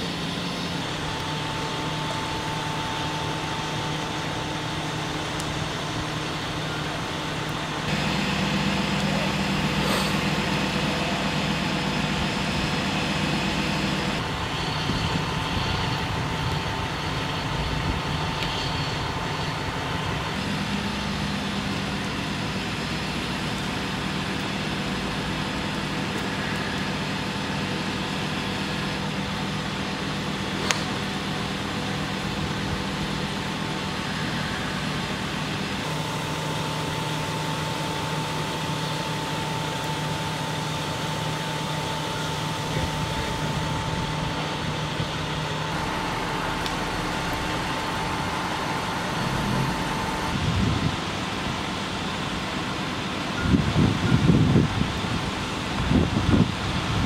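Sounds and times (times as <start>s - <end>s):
truck engines idling: 0.0s - 57.0s.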